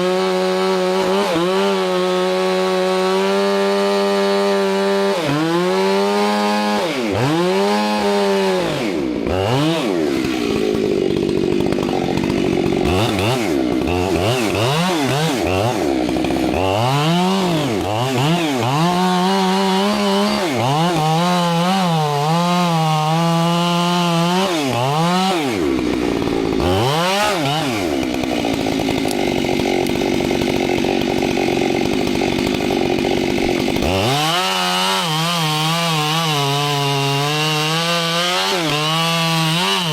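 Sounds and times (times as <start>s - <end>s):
chainsaw cutting tree: 0.0s - 39.9s.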